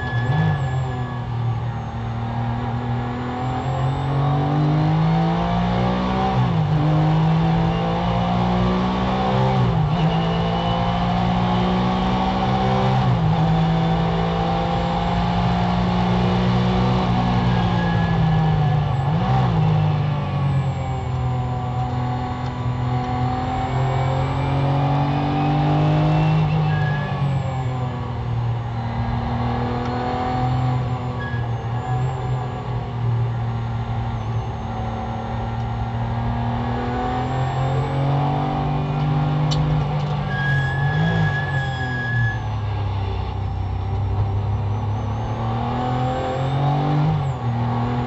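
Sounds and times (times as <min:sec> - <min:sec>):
race car engine accelerating: 0:00.0 - 0:42.0, 0:42.7 - 0:48.0.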